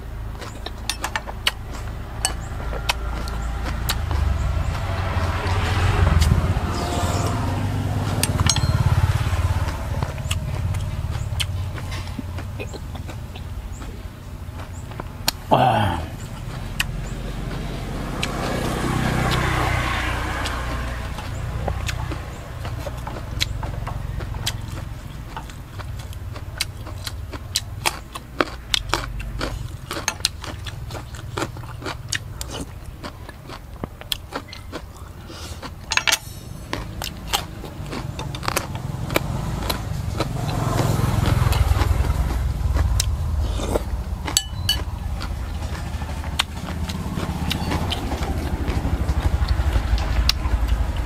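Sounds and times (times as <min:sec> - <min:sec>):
crunching and chewing vegetables: 0:00.0 - 0:51.0
low rumble of motor traffic: 0:00.0 - 0:51.0.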